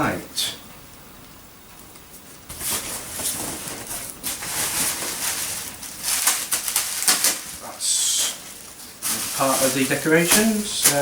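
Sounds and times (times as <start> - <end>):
bubble wrap crinkling and crackling: 1.9 - 11.0.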